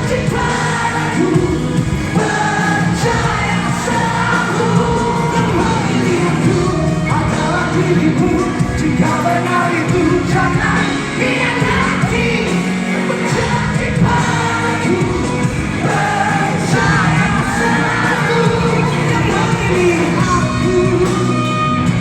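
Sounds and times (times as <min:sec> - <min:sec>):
live band playing: 0:00.0 - 0:22.0
person singing lead vocal: 0:00.0 - 0:22.0.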